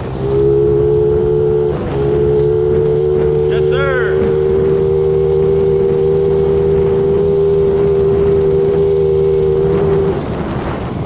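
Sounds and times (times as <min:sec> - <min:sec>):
small vehicle engine revving: 0:00.0 - 0:11.0.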